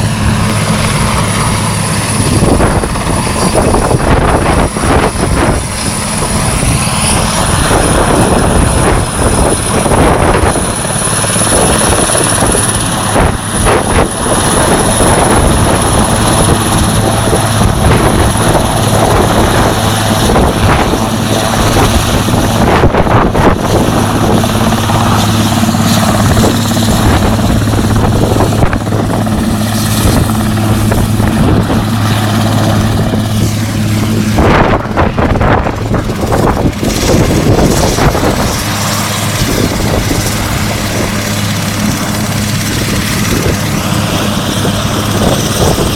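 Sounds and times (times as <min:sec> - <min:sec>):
helicopter rotor and engine: 0:00.0 - 0:45.9.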